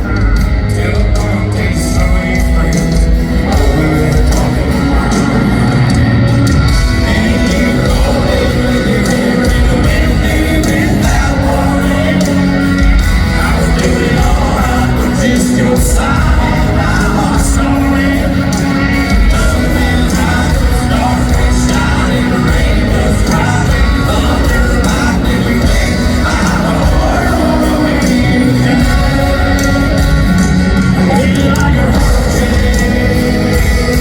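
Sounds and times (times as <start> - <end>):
country band playing: 0.0 - 34.0
person singing: 0.0 - 34.0.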